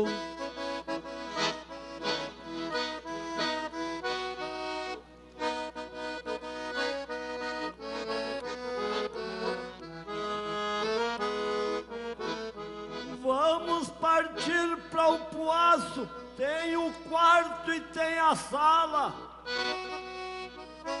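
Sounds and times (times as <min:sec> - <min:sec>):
accordion playing: 0:00.0 - 0:21.0.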